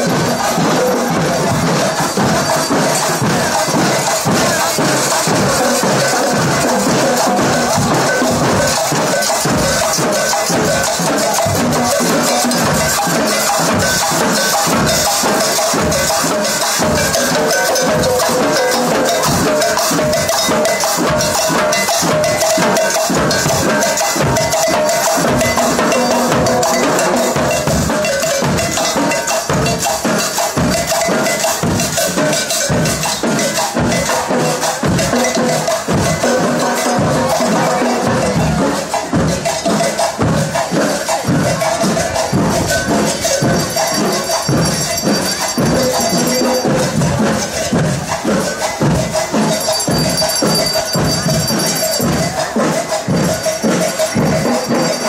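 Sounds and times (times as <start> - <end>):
marching band drums: 0.0 - 55.0.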